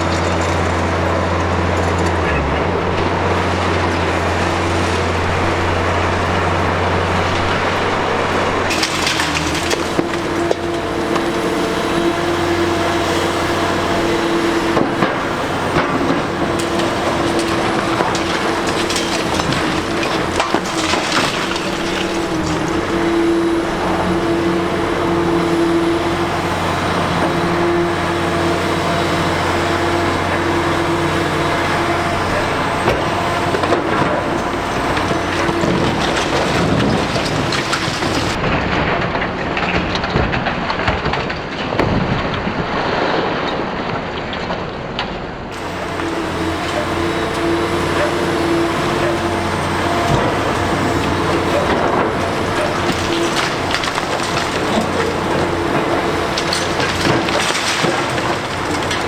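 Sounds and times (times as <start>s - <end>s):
excavator engine running: 0.0s - 38.4s, 45.5s - 59.0s
concrete cracking and breaking: 0.0s - 59.0s.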